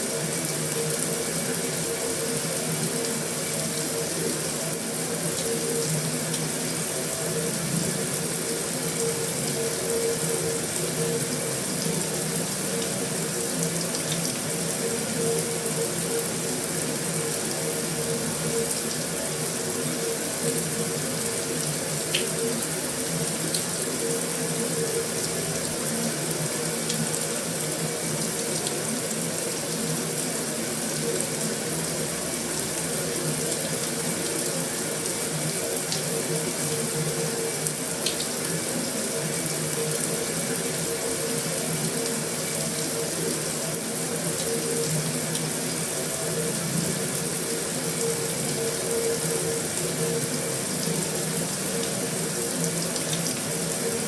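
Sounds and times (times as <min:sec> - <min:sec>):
heavy rain on a metal roof: 0:00.0 - 0:54.0.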